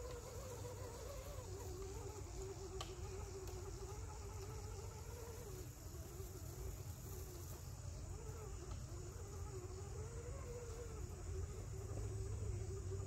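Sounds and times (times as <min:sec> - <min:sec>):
flying insect buzzing close: 0:00.0 - 0:13.0
high-pitched insect drone: 0:00.0 - 0:13.0.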